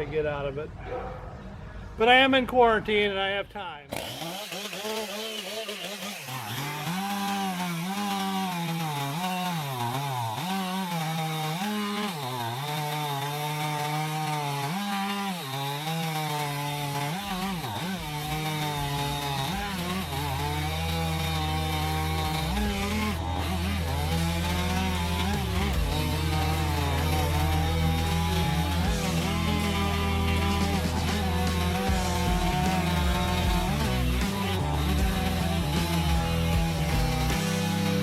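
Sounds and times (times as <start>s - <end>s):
chainsaw cutting into log: 3.9s - 38.0s.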